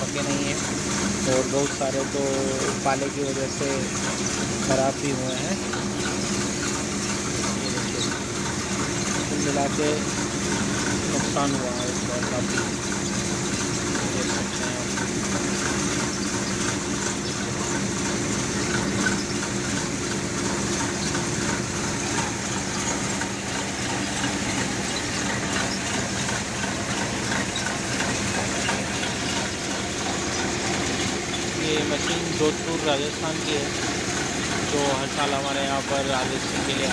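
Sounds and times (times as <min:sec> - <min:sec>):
engine hum: 0:00.0 - 0:36.9
threshing machine whirring: 0:00.0 - 0:36.9.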